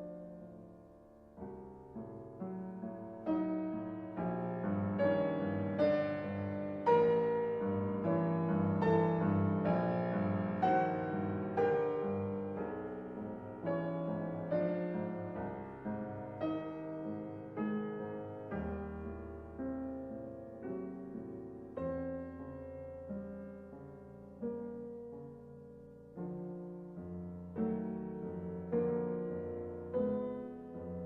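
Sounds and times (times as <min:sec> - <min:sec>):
solo piano chords: 0:00.0 - 0:31.0.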